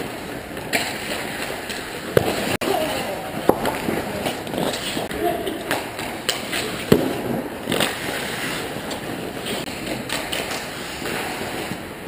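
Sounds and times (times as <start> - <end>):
hockey sticks and puck knocking: 0.0 - 2.7, 3.3 - 11.8
skate blades scraping ice: 0.0 - 12.0.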